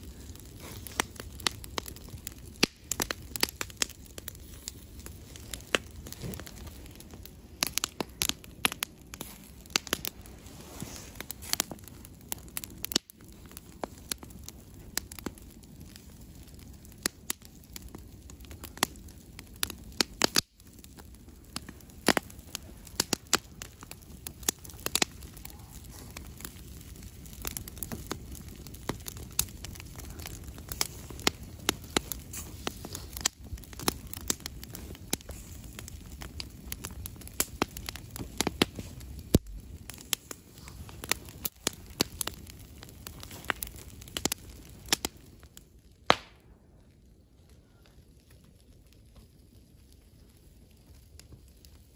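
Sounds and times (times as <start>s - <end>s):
campfire crackling and popping: 0.0s - 51.9s
low rumble of flames: 0.0s - 51.9s.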